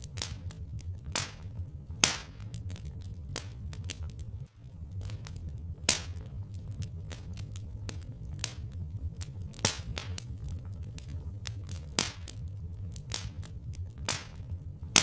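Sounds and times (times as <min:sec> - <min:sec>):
low steady rumble: 0:00.0 - 0:15.0
wood fire crackling and popping: 0:00.0 - 0:15.0.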